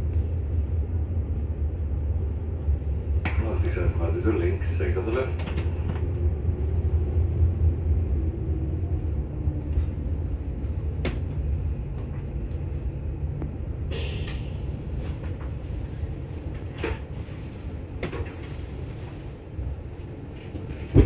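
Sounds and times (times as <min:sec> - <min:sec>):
train rumble from inside carriage: 0:00.0 - 0:21.0.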